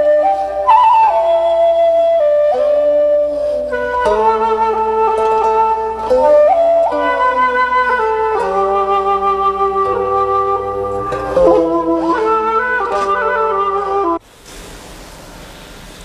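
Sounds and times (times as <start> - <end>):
slow flute music: 0.0 - 14.2.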